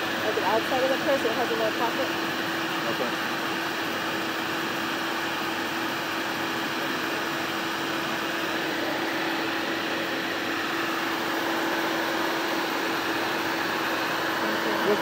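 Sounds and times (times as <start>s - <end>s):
idling vehicle hum and hiss: 0.0s - 15.0s.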